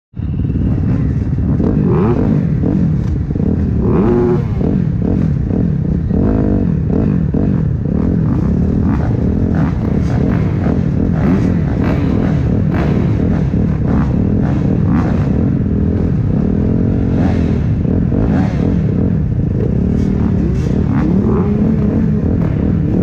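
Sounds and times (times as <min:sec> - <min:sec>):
motocross bike engines revving: 0:00.2 - 0:23.0.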